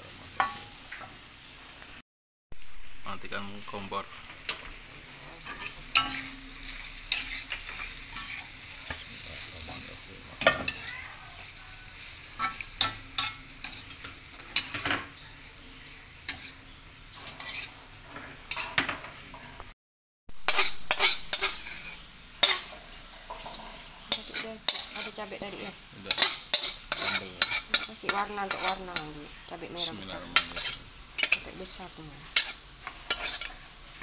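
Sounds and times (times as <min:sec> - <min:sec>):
metal spatula scraping wok: 0:00.0 - 0:01.4, 0:03.7 - 0:19.6, 0:20.4 - 0:34.0
food sizzling in pan: 0:00.0 - 0:34.0.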